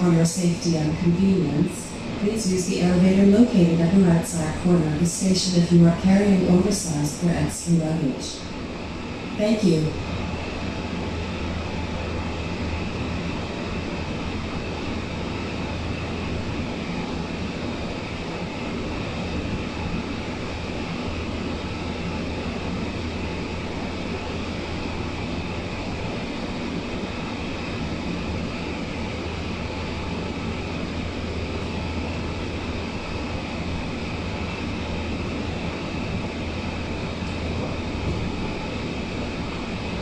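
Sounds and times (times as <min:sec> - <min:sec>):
train cabin hum and hiss: 0:00.0 - 0:40.0.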